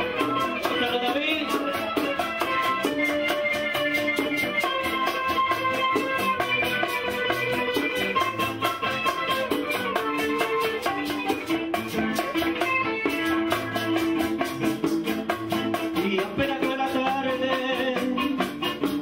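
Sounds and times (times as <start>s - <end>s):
electric guitars picking melody: 0.0s - 19.0s
fast percussion rhythm: 0.0s - 19.0s.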